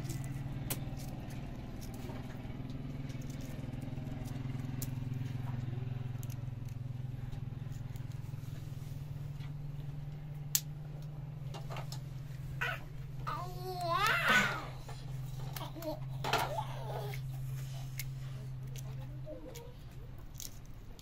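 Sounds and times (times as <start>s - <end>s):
small engine humming: 0.0s - 21.0s.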